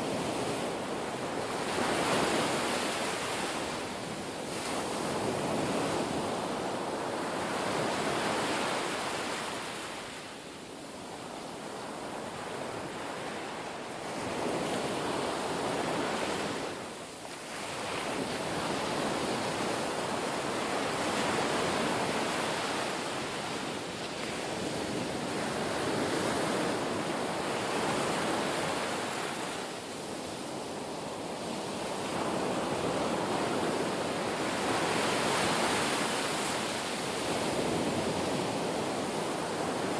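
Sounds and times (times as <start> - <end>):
ocean waves rushing and washing: 0.0 - 39.9.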